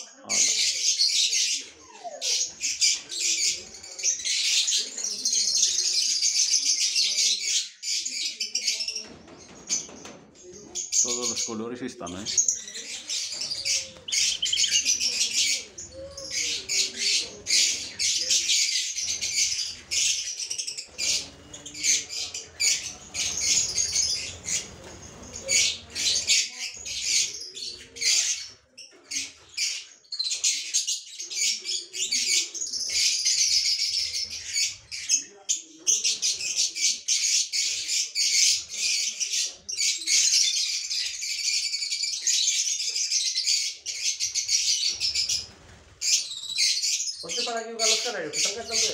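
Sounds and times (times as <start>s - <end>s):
lovebirds chirping and chattering: 0.0s - 48.9s.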